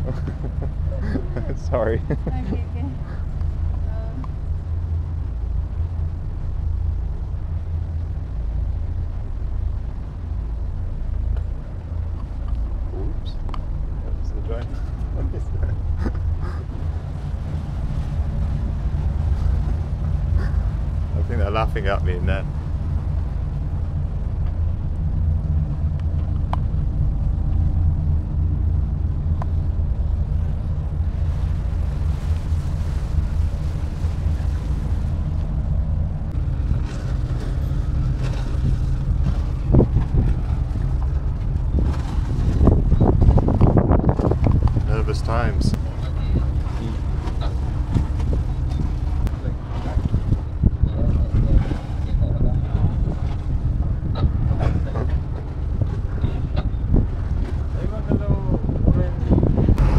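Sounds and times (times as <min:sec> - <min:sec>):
ferry low rumble: 0:00.0 - 0:59.9.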